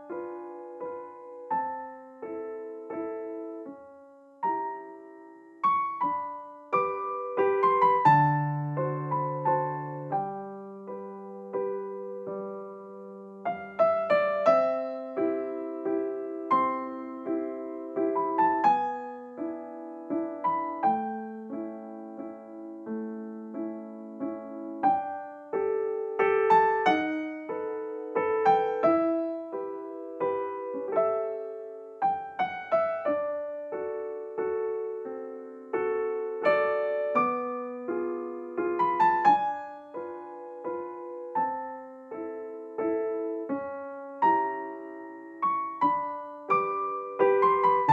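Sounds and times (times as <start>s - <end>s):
slow solo piano music: 0.0s - 47.9s.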